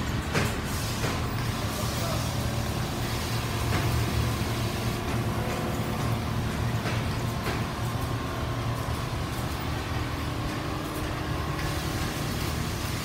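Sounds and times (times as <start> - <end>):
quilting machines humming: 0.0 - 13.0.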